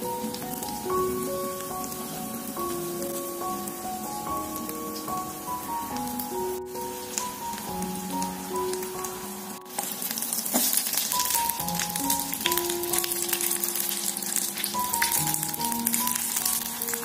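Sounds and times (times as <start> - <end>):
background music: 0.0 - 17.0
oil sizzling and crackling: 0.0 - 17.0.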